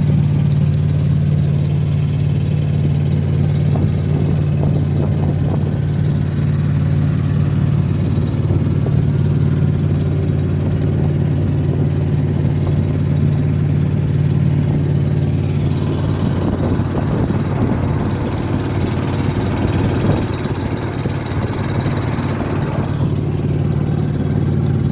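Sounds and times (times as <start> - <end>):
boat engine humming: 0.0 - 24.9.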